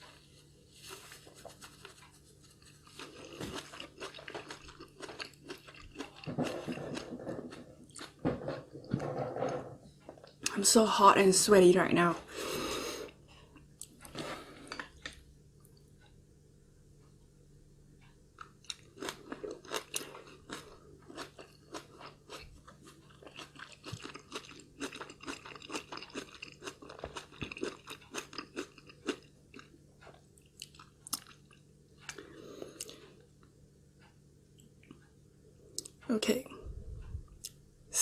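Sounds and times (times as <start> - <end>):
crunchy chewing of food: 0.0 - 10.5, 12.3 - 16.1, 18.0 - 36.0.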